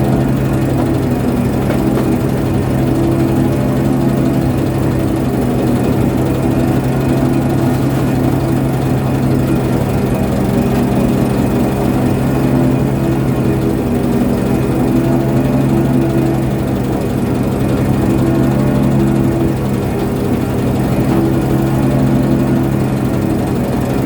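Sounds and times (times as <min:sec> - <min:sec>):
ship engine droning: 0:00.0 - 0:24.0.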